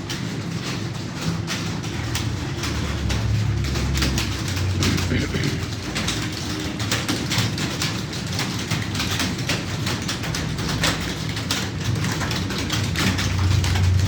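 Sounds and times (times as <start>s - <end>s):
fast typing on keyboard: 0.0s - 14.0s.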